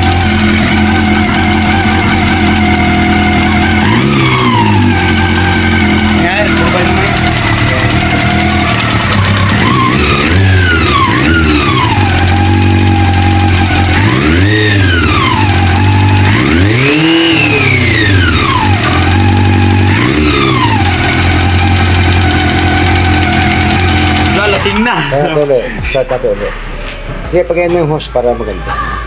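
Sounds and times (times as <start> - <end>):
motorcycle engine idling and revving: 0.0 - 28.3.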